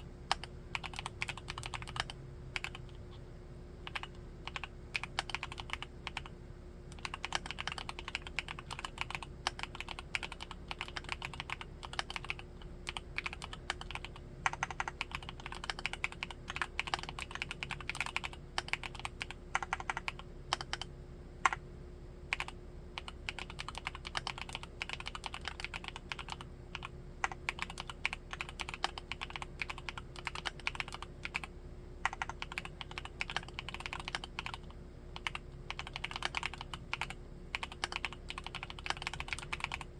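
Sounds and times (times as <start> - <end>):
mechanical keyboard typing: 0.0 - 3.0, 3.8 - 6.3, 6.9 - 20.9, 22.3 - 39.9
faint steady hum: 0.0 - 39.9.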